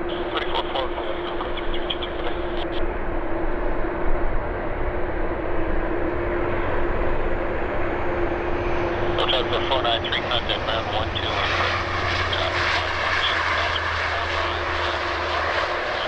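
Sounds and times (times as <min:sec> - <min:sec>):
faint high whine: 0:00.0 - 0:03.2, 0:06.0 - 0:16.0
jet engine rushing and humming: 0:00.0 - 0:16.0.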